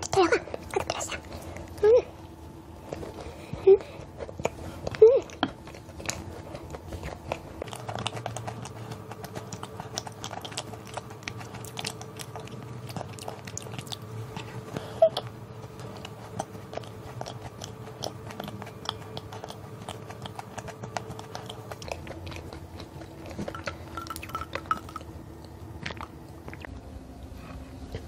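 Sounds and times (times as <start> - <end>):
person chewing a cookie: 0.0 - 28.0.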